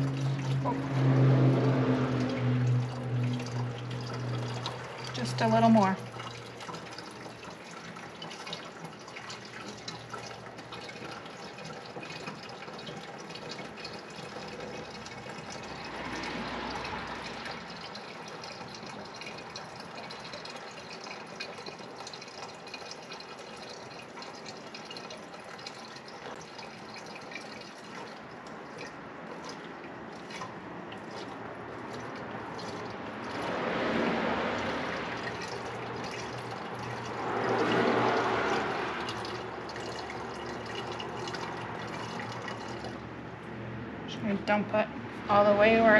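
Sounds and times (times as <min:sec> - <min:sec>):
liquid trickling into reservoir: 0:00.0 - 0:45.9.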